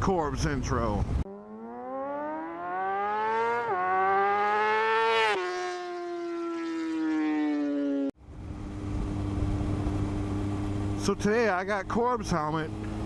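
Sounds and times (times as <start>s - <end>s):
high-revving engine accelerating: 1.2s - 13.0s.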